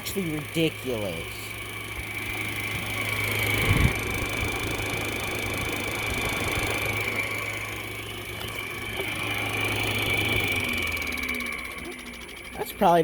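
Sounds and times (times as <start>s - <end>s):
air conditioner low hum: 0.0s - 13.0s
fan whine and rushing: 0.0s - 13.0s.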